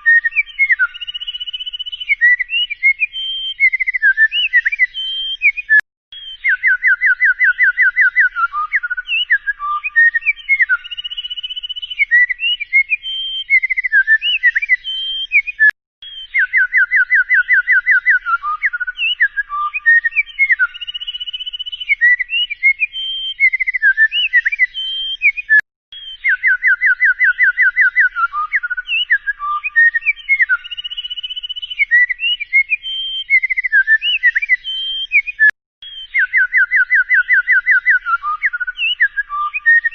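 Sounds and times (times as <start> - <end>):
whistled birdlike song: 0.0 - 39.9.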